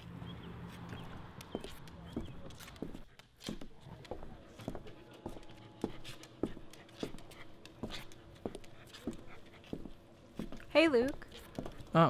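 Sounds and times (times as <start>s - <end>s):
footsteps on a hard surface: 0.7s - 12.0s.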